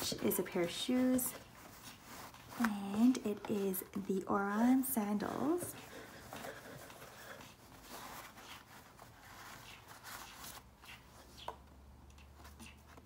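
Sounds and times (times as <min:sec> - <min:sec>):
rustling of bags and tissue paper: 0:00.0 - 0:11.3.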